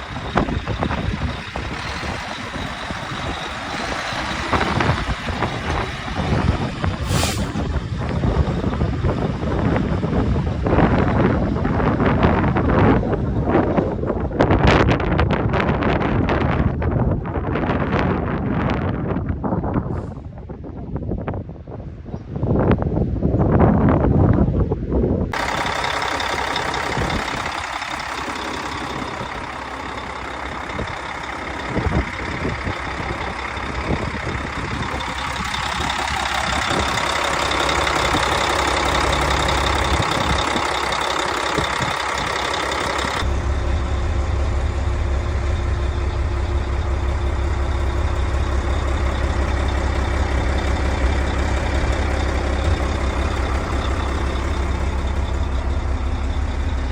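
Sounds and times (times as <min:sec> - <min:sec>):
diesel truck engine idling: 0:00.0 - 0:18.9, 0:25.3 - 0:56.9.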